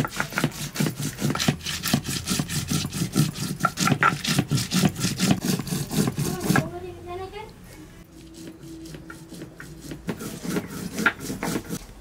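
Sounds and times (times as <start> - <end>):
stone scraping on stone: 0.0 - 6.8, 8.1 - 11.8.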